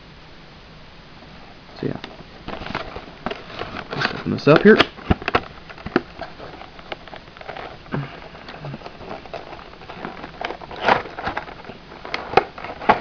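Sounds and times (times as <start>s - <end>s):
packaging crinkling and rustling: 1.8s - 13.0s.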